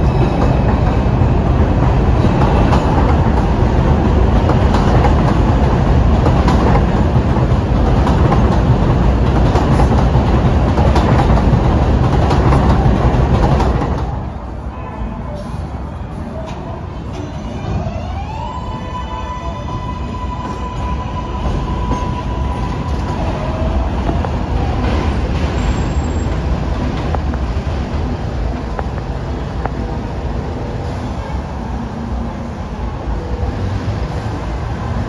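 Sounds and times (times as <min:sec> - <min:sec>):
subway train propulsion whine: 0:00.0 - 0:35.0
wheel and rail rumble: 0:00.0 - 0:35.0.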